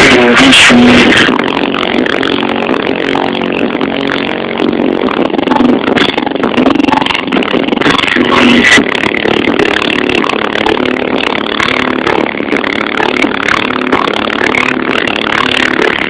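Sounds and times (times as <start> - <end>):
clatter: 0.0 - 16.0
distorted bass-heavy music: 0.0 - 16.0.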